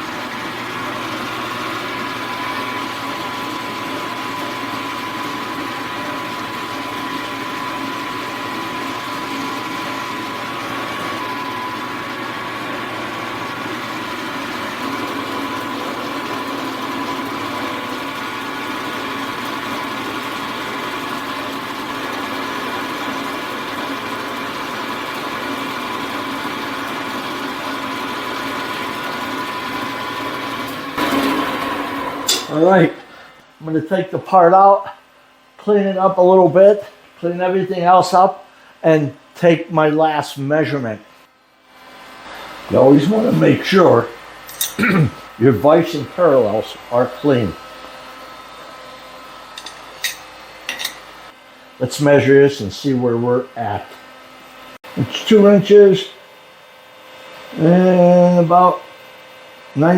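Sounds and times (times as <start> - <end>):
milling machine cutting with whine: 0.0 - 59.9.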